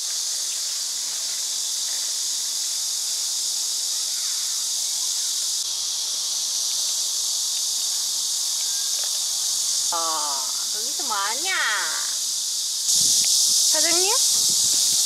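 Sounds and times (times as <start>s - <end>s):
cicada chorus drone: 0.0s - 15.0s.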